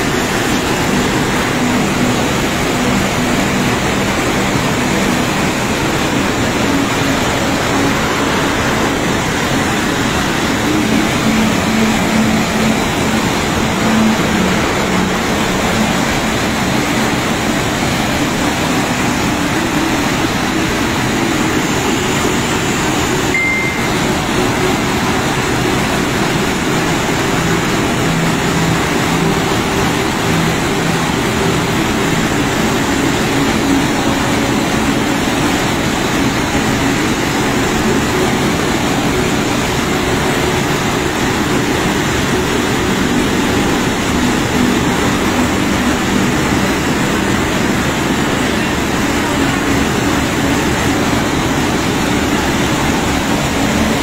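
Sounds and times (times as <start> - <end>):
roar of rushing floodwater: 0.0 - 54.0.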